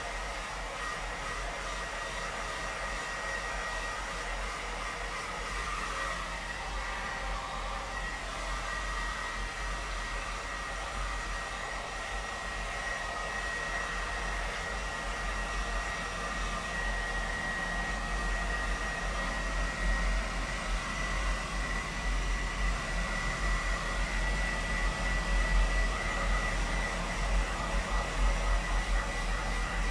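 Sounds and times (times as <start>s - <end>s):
hair dryer running: 0.0s - 29.9s.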